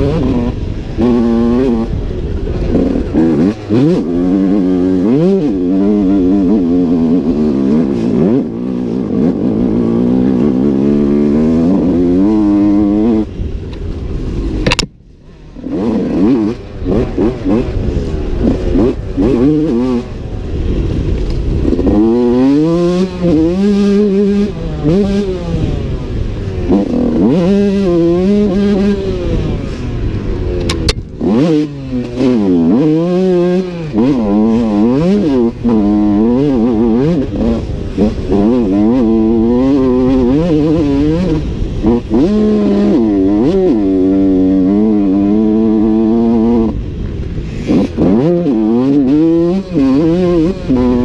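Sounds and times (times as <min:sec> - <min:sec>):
two-stroke motorcycle engine revving: 0:00.0 - 0:51.0.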